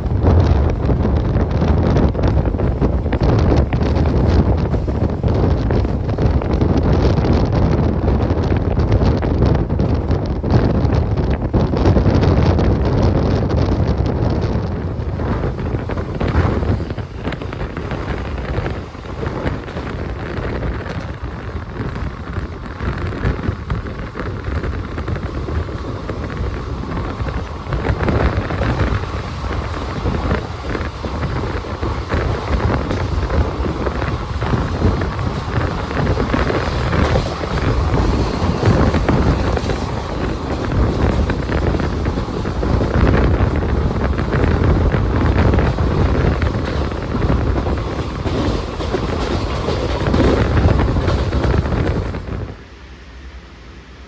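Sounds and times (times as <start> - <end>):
wind buffeting microphone: 0.0 - 53.4
moving train rumble: 0.0 - 54.0.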